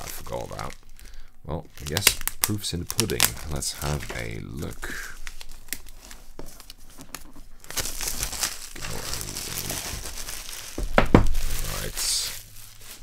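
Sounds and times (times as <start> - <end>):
plastic wrap crinkling and tearing: 0.0 - 13.0.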